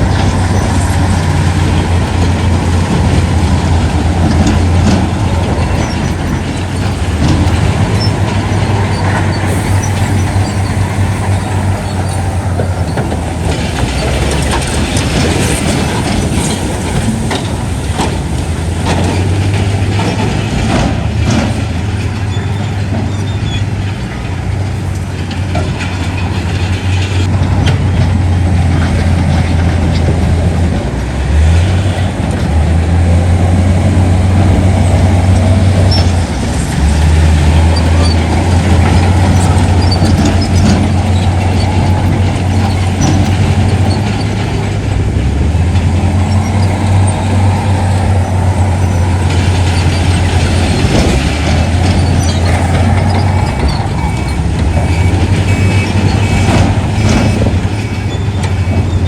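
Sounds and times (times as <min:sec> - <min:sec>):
diesel engines droning: 0:00.0 - 0:59.0
metallic clanking and rattling: 0:00.0 - 0:59.0.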